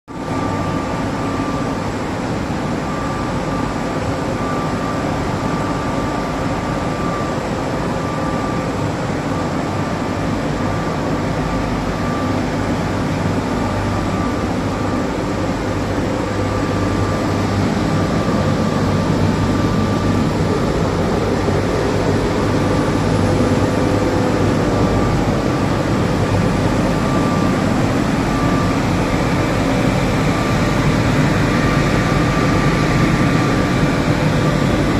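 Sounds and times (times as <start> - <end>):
faint machine whine: 0.1 - 34.9
machine humming: 0.2 - 34.9.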